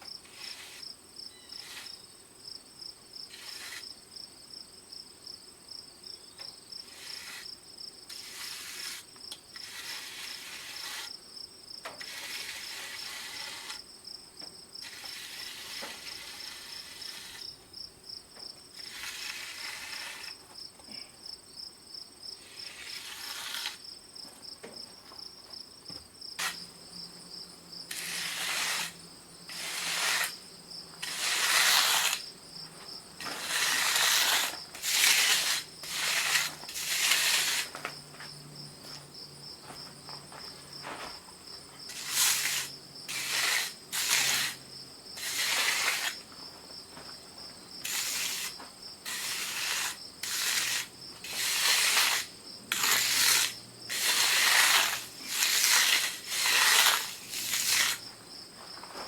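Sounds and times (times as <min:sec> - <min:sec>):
crickets trilling: 0:00.1 - 0:59.0.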